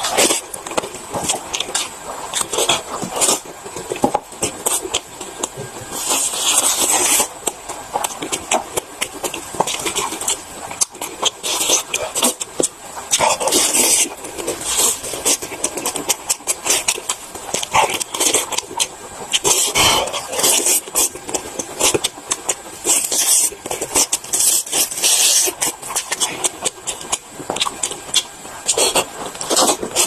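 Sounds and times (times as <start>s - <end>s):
chewing and biting smacks: 0.0s - 30.0s
slurping hiss: 4.6s - 30.0s.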